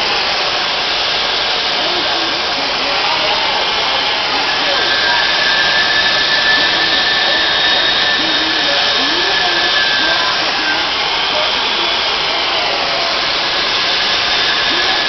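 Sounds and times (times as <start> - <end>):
high whine: 0.0 - 15.0
jet engine roaring: 0.0 - 15.0.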